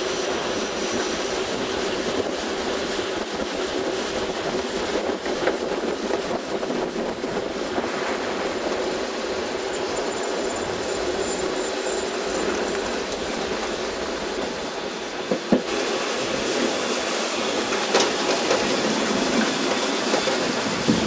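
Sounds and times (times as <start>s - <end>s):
train carriages rumbling on rails: 0.0s - 21.0s.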